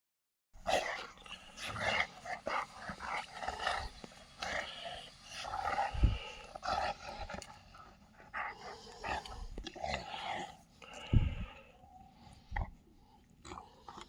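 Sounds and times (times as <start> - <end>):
dogs growling: 0.6 - 12.0.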